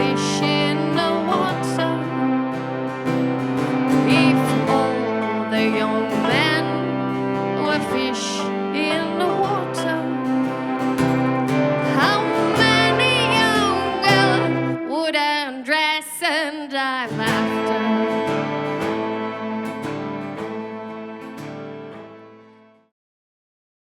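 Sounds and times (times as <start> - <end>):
strummed guitar: 0.0 - 16.4, 17.0 - 22.9
person singing ornamented line: 0.0 - 21.3.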